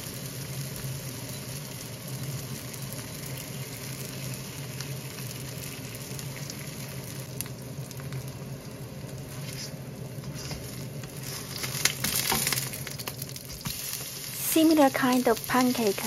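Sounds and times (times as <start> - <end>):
low steady hum: 0.0 - 16.0
pancakes sizzling in oil: 0.0 - 16.0.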